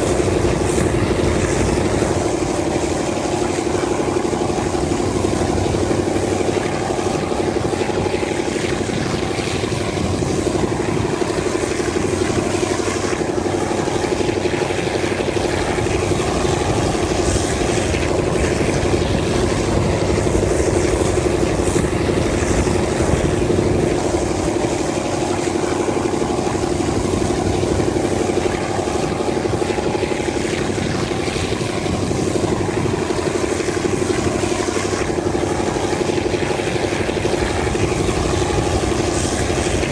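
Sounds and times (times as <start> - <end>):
locomotive engine droning: 0.0 - 39.9.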